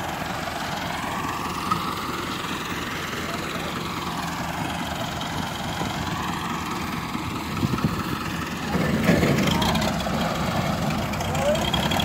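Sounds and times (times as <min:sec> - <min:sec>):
diesel tractor engines idling: 0:00.0 - 0:12.0.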